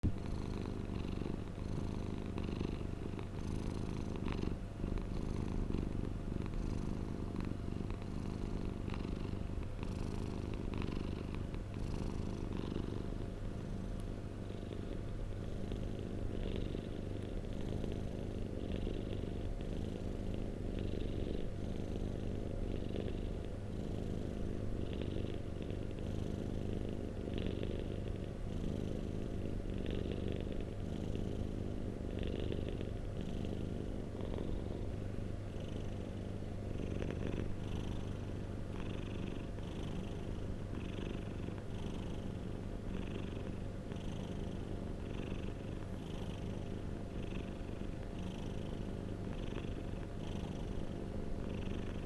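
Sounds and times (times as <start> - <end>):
cat purring: 0.0 - 52.0.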